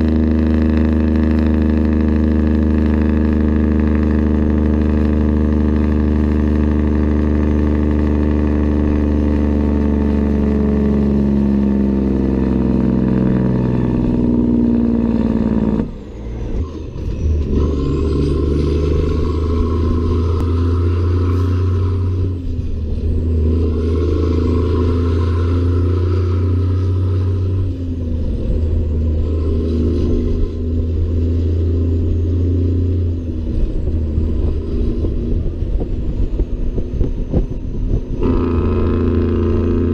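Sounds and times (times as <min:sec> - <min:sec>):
diesel truck engine running hard: 0:00.0 - 0:39.9.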